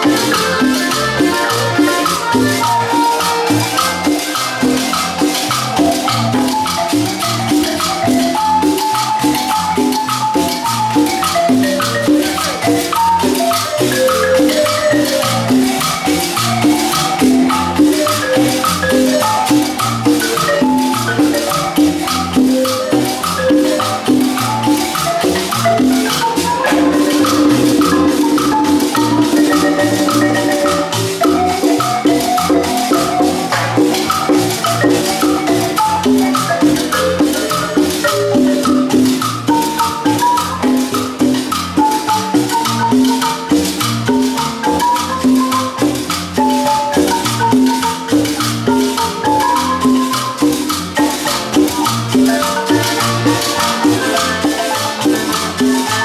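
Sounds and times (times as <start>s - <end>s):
conga drums: 0.0s - 56.0s
marimba dance tune: 0.0s - 56.0s
shaker: 0.0s - 56.0s.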